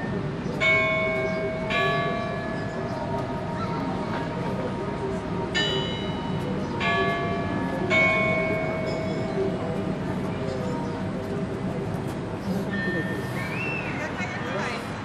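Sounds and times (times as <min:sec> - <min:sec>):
bells ringing: 0:00.0 - 0:11.2, 0:12.7 - 0:15.0
steady background hum: 0:00.0 - 0:15.0.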